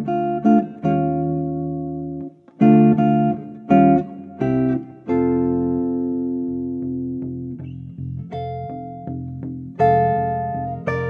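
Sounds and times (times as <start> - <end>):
guitar chords ringing: 0.0 - 11.0.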